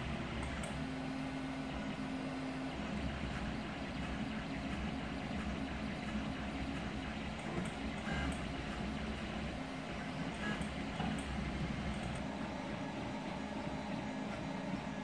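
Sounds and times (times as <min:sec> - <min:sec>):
cooling fans humming: 0:00.0 - 0:15.0.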